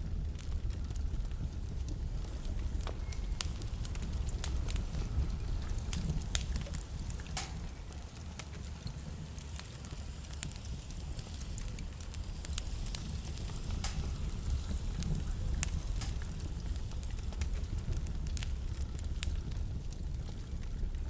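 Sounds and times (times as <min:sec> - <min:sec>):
wood fire crackling in fireplace: 0:00.0 - 0:21.0.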